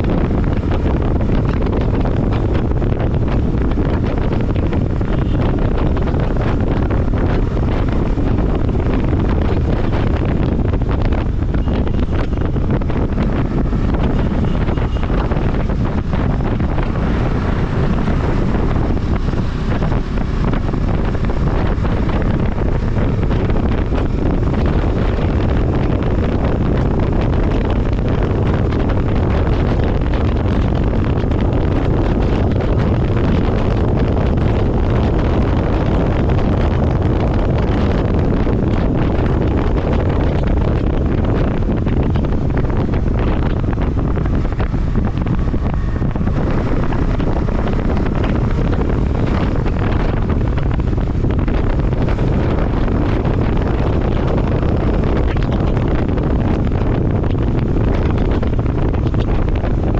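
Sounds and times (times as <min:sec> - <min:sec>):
rush of moving vehicle: 0:00.0 - 0:59.9
wind buffeting microphone: 0:00.0 - 0:59.9.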